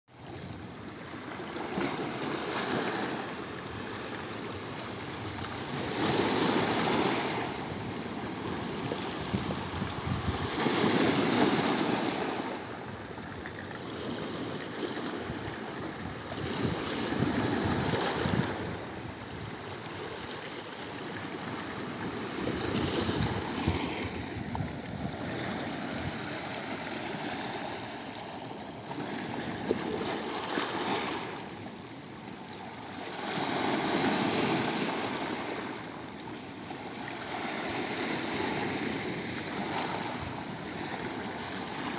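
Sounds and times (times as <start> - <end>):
waves washing over pebbles: 0.6 - 41.9.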